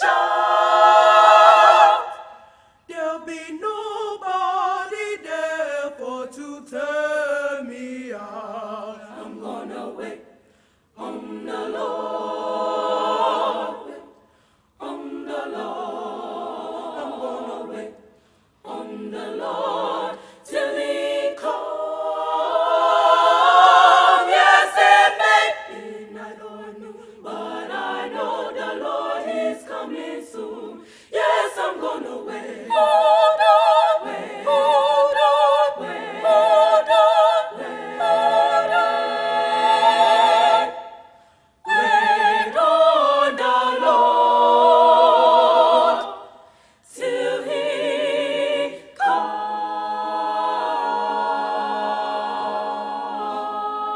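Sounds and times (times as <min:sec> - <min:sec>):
women's choir singing a cappella: 0:00.0 - 0:53.9.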